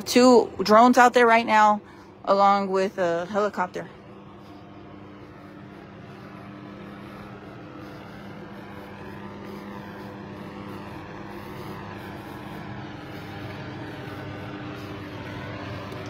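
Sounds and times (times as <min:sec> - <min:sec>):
engines humming: 0:00.0 - 0:16.0.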